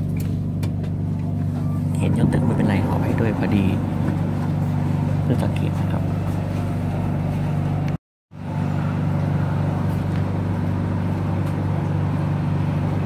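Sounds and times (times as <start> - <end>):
train running low hum: 0.0 - 13.0.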